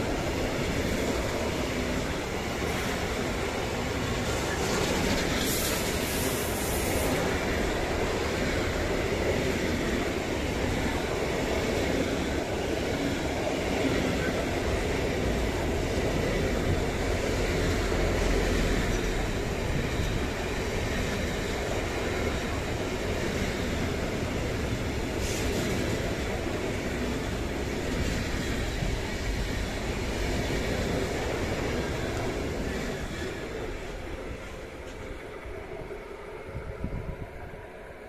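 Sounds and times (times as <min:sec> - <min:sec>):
freight train wheels rolling on rails: 0:00.0 - 0:38.0.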